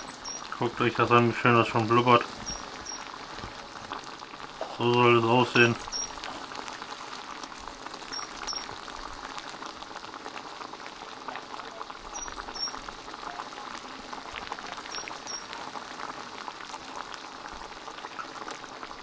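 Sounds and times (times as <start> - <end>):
thick sauce bubbling in a wok: 0.0 - 19.0.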